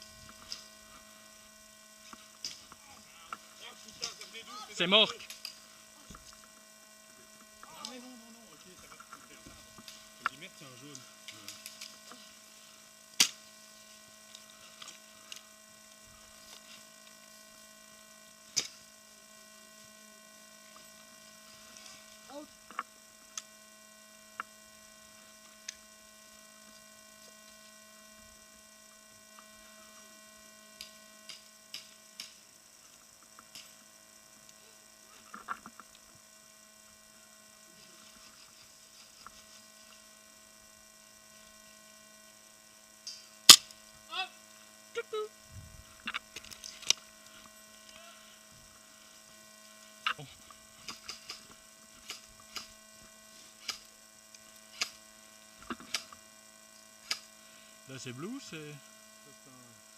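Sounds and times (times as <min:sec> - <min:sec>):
sharp electrical clicks and snaps: 0:00.0 - 0:01.0, 0:02.0 - 0:29.8, 0:30.6 - 0:45.1, 0:45.8 - 0:58.9
electrical hum: 0:00.0 - 0:59.9.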